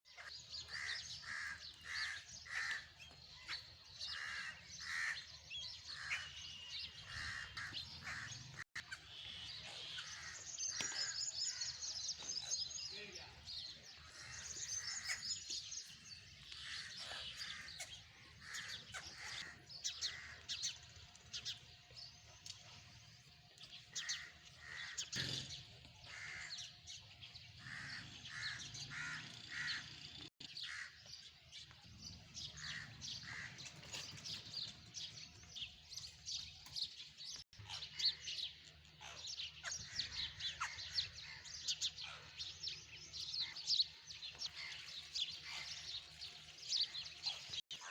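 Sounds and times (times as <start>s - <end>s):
birds chirping and calling: 0.1s - 47.9s.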